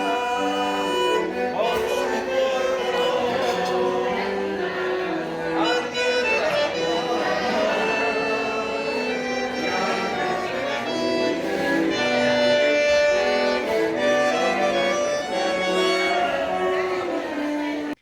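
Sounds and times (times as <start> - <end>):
street musicians playing a tune: 0.0 - 18.0.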